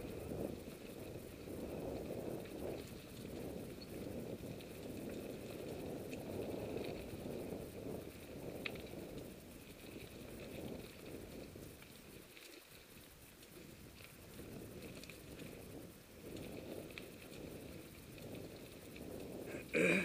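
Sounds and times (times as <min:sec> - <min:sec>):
bike tyres on dirt: 0:00.0 - 0:20.0.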